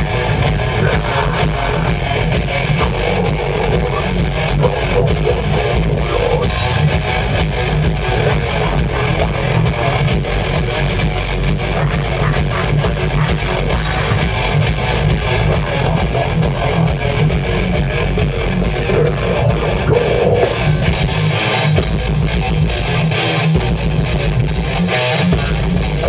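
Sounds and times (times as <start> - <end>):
drums hitting: 0.0 - 24.8
electric guitars: 0.0 - 26.0.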